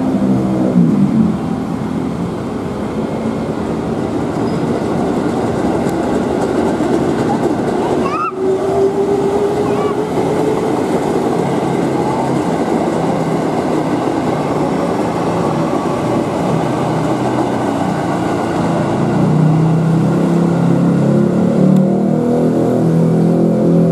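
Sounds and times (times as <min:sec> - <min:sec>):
commuter train rumbling: 0:00.0 - 0:23.9.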